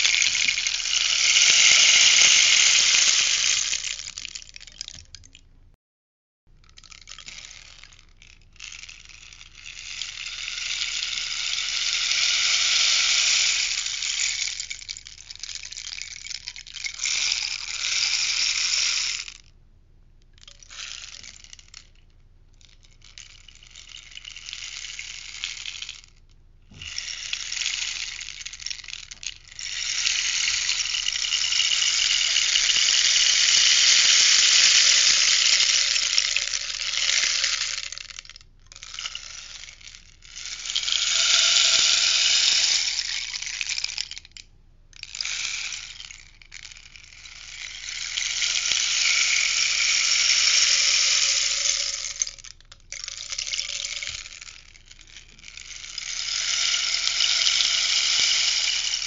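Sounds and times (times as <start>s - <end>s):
rainstick pebbles trickling: 0.0s - 5.4s, 6.6s - 19.5s, 20.4s - 22.0s, 22.6s - 59.0s.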